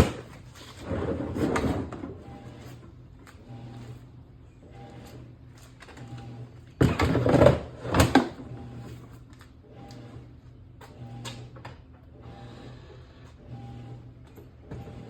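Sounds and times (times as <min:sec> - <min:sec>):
laundry machine humming: 0:00.0 - 0:15.0.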